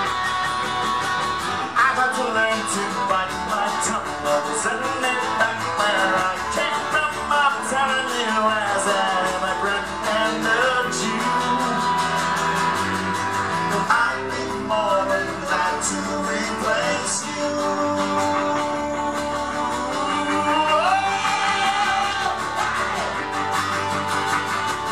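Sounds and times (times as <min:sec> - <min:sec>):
acoustic guitar strumming: 0:00.0 - 0:24.9
man singing: 0:01.6 - 0:13.0, 0:13.6 - 0:23.0.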